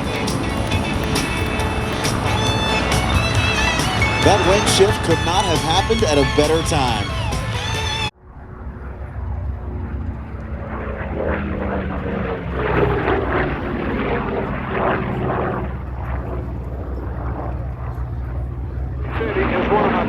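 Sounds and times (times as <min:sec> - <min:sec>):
propeller airplane engine droning: 0:00.0 - 0:20.0.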